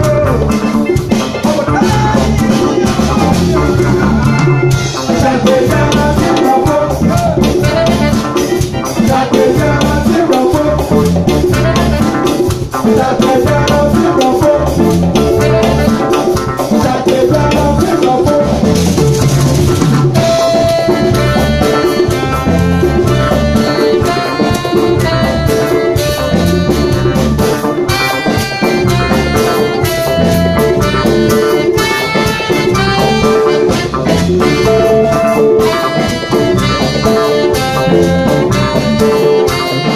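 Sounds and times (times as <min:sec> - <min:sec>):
horns playing a riff: 0:00.0 - 0:16.6, 0:19.2 - 0:39.9
live band playing: 0:00.0 - 0:39.9.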